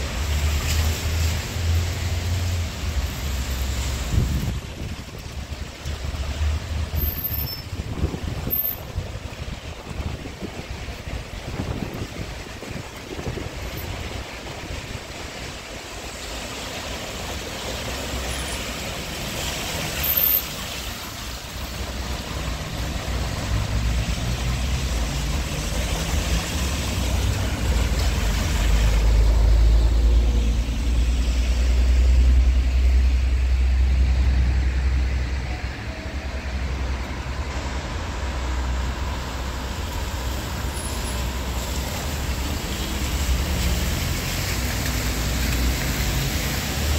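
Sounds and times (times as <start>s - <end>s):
bus engine rumble: 0.0s - 46.9s
tyres hissing on wet asphalt: 0.0s - 46.9s.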